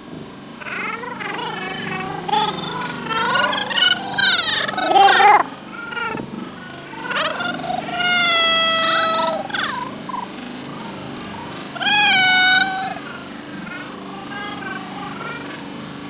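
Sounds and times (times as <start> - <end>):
high-pitched drawn-out calls: 0.6 - 16.0.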